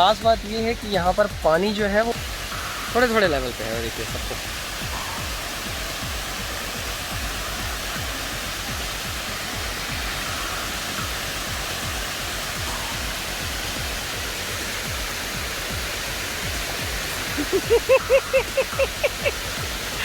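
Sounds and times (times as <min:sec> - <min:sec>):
water rushing over a dam: 0:00.0 - 0:20.0.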